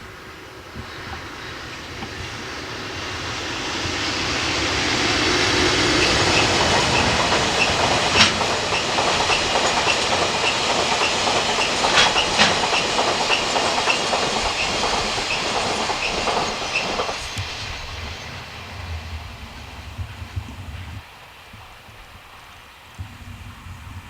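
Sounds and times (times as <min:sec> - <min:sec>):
train passing at speed: 0:00.0 - 0:24.0
wheels clicking over rail joints: 0:00.1 - 0:24.0.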